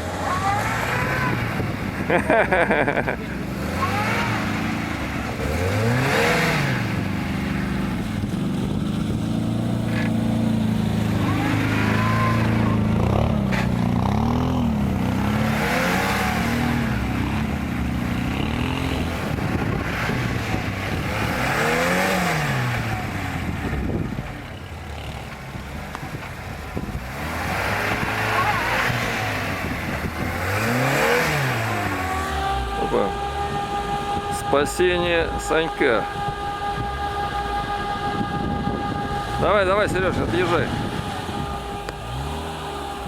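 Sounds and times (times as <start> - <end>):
off-road vehicle engine revving: 0.0 - 43.0.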